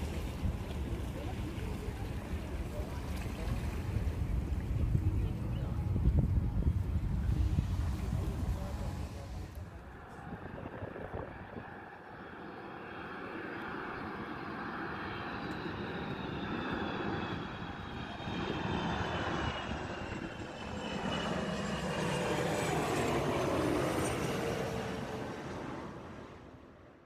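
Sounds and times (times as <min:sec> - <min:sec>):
jet airliner flying overhead: 0:00.0 - 0:27.0
jet engine whine: 0:00.0 - 0:27.0.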